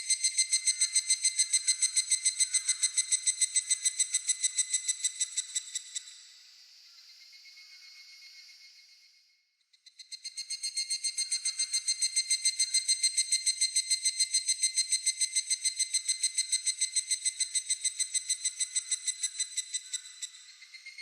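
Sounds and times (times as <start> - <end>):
cicada calling: 0.0 - 6.1, 10.1 - 21.0.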